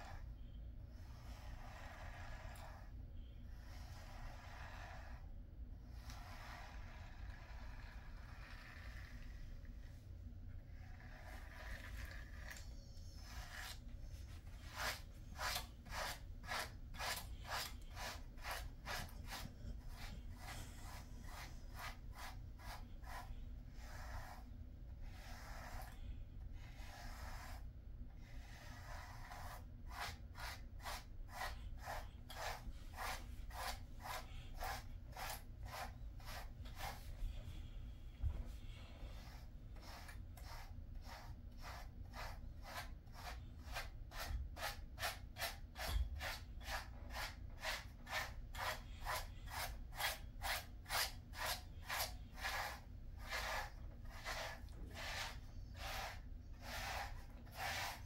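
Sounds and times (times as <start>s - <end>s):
brush strokes through dog fur: 0.0s - 58.0s.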